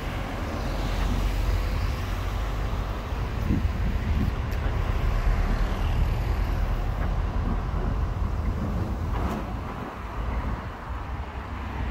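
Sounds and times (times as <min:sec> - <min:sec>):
diesel truck engine rumble: 0:00.0 - 0:11.9.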